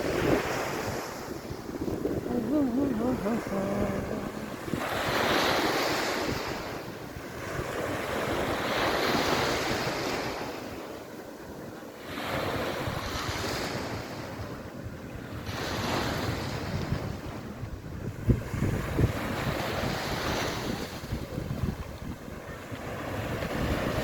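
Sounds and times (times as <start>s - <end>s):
wind buffeting microphone: 0.0s - 10.5s, 12.2s - 24.0s
sea waves washing onto beach: 0.0s - 24.0s.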